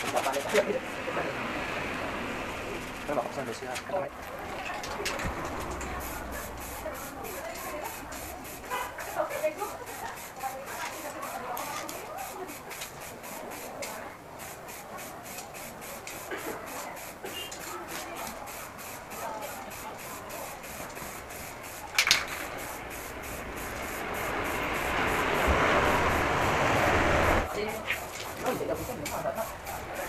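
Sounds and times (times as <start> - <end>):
aerosol spray can hissing: 5.2 - 30.0.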